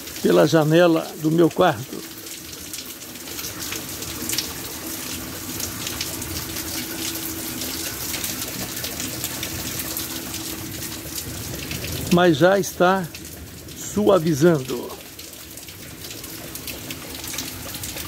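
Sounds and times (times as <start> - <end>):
heavy rain falling: 0.0 - 18.0
raindrops splattering close by: 0.0 - 18.0
faint steady hum: 1.8 - 18.0.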